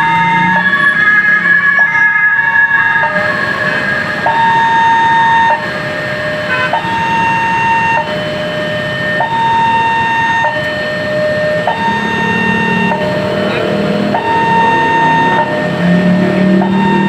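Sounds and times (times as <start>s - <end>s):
steady high tone: 0.0s - 17.0s
two-tone level crossing siren: 0.0s - 17.0s.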